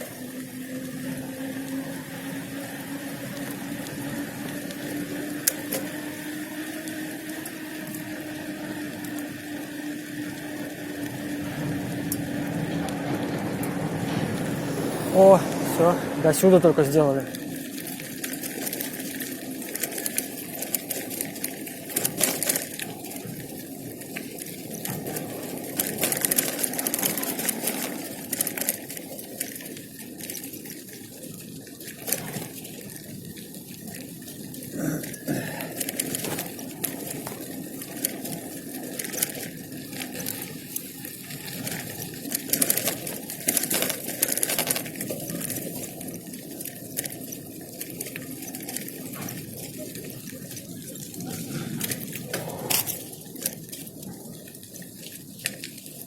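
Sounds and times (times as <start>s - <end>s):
crackles and clicks: 0.0s - 56.0s
motorcycle engine hum: 0.0s - 56.0s
wind and road noise: 0.0s - 56.0s.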